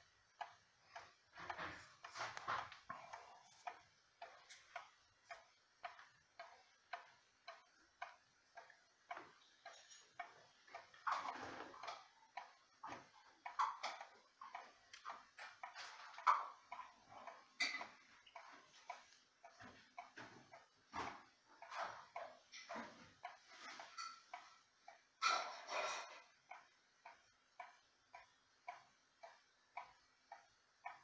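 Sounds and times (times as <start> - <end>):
wall clock ticking: 0.0 - 31.0.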